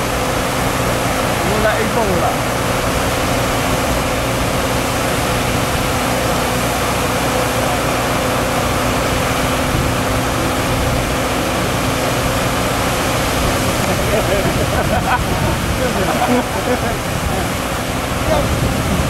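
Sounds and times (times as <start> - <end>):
excavator engine running: 0.0 - 19.0
machine hum with steady tones: 0.0 - 19.0.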